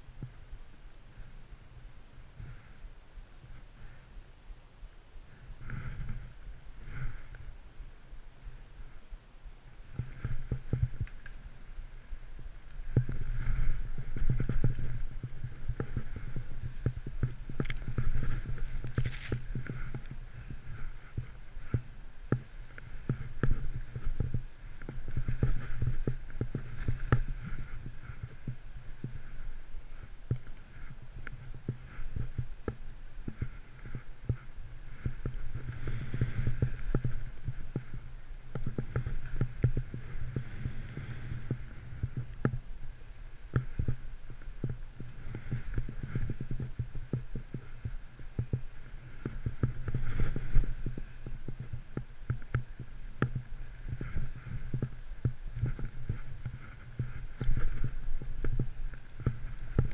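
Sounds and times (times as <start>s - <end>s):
muffled low rumble: 0.0s - 59.9s.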